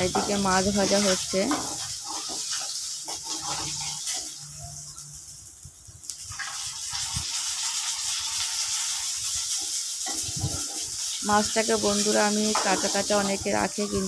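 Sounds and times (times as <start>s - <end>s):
metal spatula scraping a pan: 0.0s - 4.8s, 6.3s - 14.0s
fish sizzling in hot oil: 0.0s - 14.0s.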